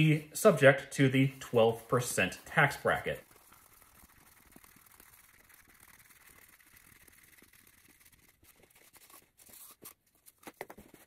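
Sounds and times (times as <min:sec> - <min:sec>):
toilet paper unrolling: 0:01.3 - 0:11.0.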